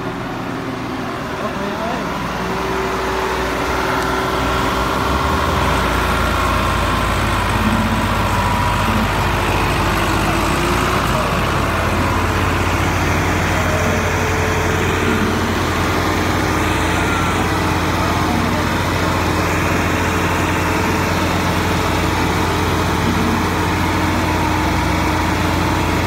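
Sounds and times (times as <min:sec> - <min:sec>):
tractor diesel engines under load: 0:00.0 - 0:26.0.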